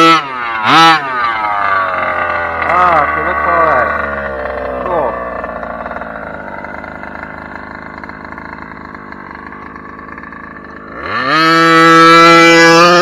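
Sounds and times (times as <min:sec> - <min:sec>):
model truck engine revving: 0:00.0 - 0:13.0.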